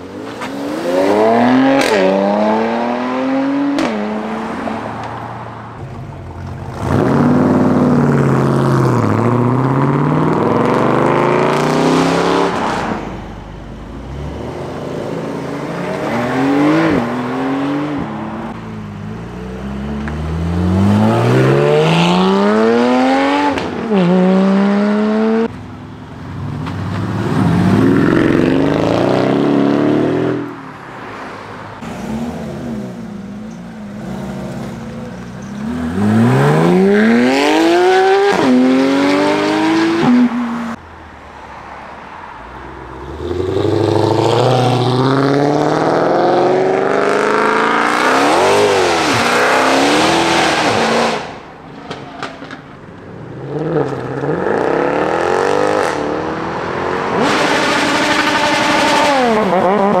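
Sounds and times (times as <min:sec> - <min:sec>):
cars accelerating hard: 0:00.0 - 0:05.6, 0:06.4 - 0:13.3, 0:14.0 - 0:25.5, 0:26.5 - 0:40.8, 0:42.2 - 0:52.3, 0:53.3 - 1:00.0.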